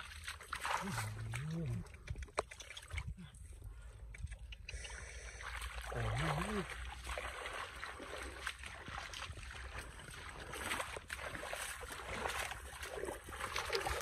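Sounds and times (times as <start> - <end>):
hands sloshing mud and water: 0.0 - 4.4, 5.0 - 14.0.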